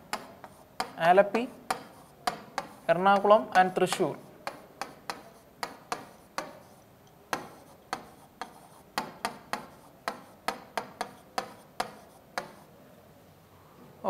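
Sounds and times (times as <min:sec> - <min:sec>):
marker pen tapping on board: 0:00.0 - 0:12.7.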